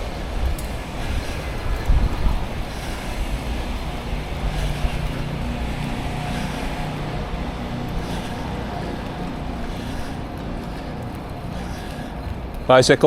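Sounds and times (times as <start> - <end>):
wind and road noise from bicycle: 0.0 - 13.0.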